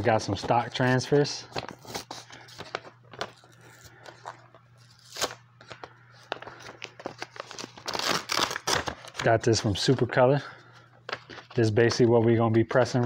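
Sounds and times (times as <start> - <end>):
paper rustling and crinkling: 0.2 - 10.2, 10.8 - 13.0.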